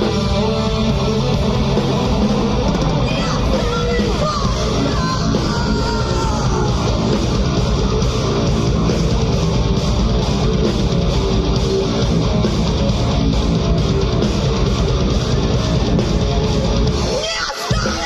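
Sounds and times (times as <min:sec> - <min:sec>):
bass guitar: 0:00.0 - 0:17.2
distorted electric guitar strumming: 0:00.0 - 0:17.9
drums fast steady beat: 0:00.0 - 0:18.0.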